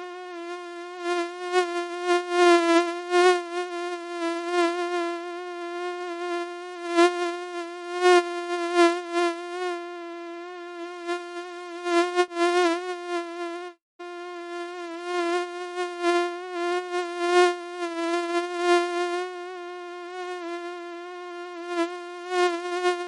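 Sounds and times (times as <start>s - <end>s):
mosquito buzzing: 0.0s - 23.0s.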